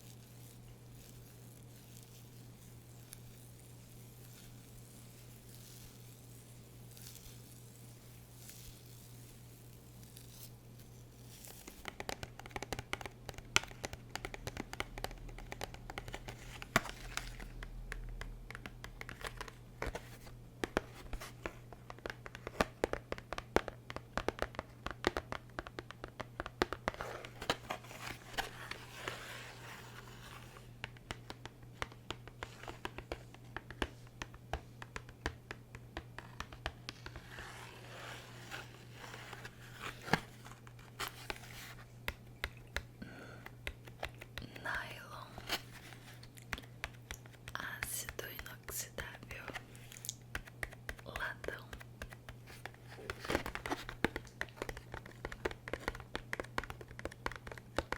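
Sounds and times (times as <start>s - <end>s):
object scratching and crinkling: 0.0s - 12.3s, 13.4s - 23.0s, 26.8s - 34.8s, 36.2s - 42.8s, 43.8s - 57.6s.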